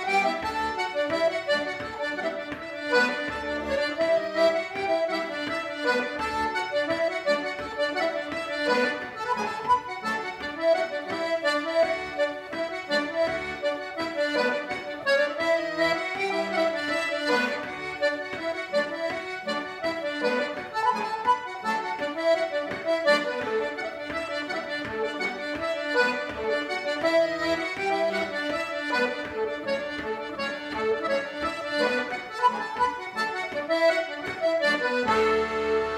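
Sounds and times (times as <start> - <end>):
accordion melody: 0.0 - 35.9.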